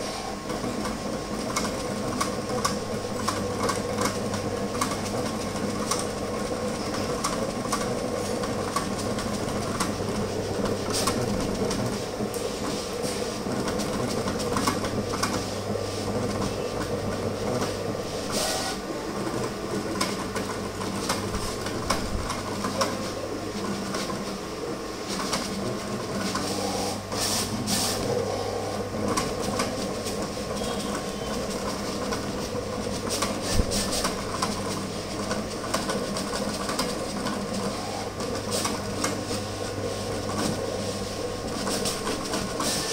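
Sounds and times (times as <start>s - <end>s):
printing machine motor hum: 0.0s - 42.9s.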